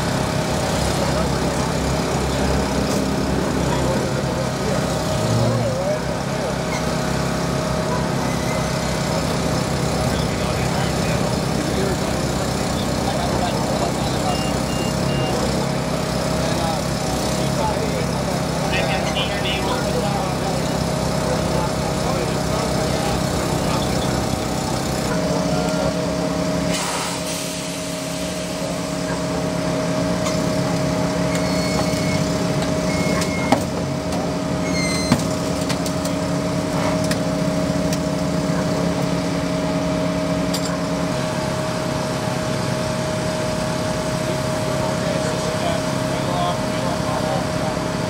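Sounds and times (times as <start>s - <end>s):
engine drone with humming tone: 0.0s - 48.0s.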